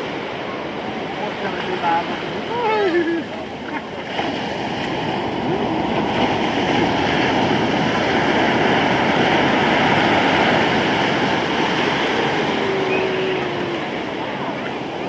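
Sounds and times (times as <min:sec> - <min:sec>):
waves breaking: 0:00.0 - 0:15.0.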